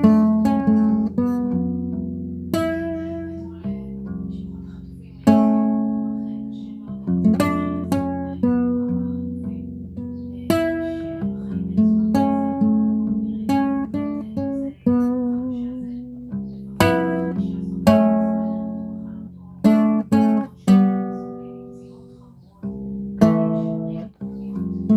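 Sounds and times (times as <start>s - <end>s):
guitar notes and chords plucked: 0.0s - 24.9s.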